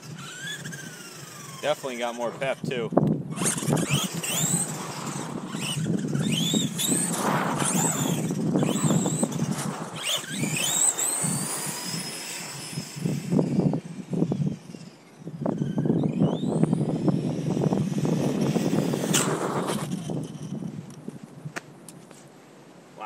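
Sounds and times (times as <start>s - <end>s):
electric motor whining: 0.0s - 21.0s
wind and tyre rush: 0.0s - 22.2s.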